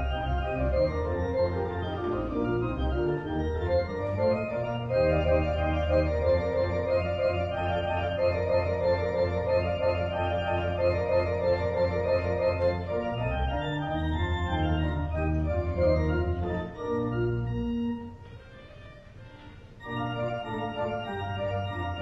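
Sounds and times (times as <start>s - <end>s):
organ music: 0.0s - 22.0s.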